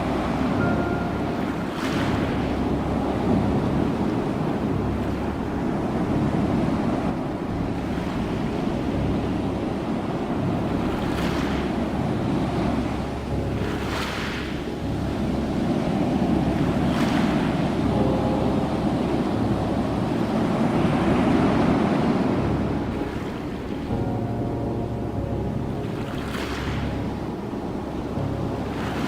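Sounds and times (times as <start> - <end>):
low rumble of waves: 0.0 - 29.0.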